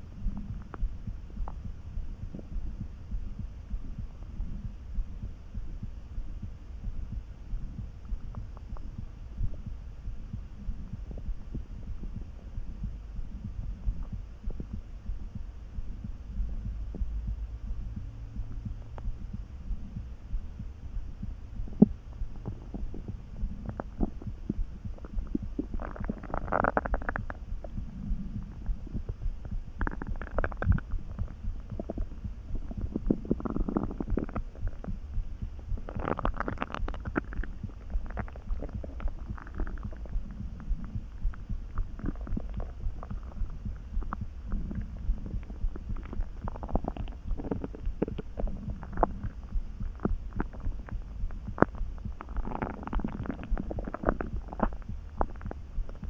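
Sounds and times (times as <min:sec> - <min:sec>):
low throbbing: 0:00.0 - 0:56.0
stomach gurgling and rumbling: 0:00.0 - 0:56.0.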